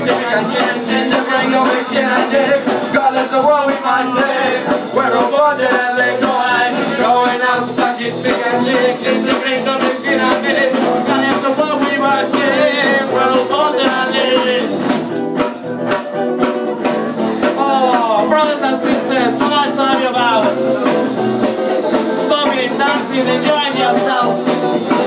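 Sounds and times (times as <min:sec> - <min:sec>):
band playing swing music: 0:00.0 - 0:25.0.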